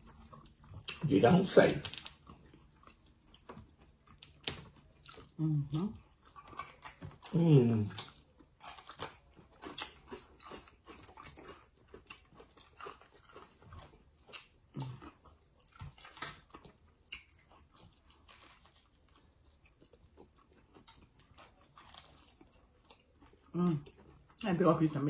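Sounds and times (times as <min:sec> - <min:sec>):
faint eating crunches and chewing: 0:00.0 - 0:25.0.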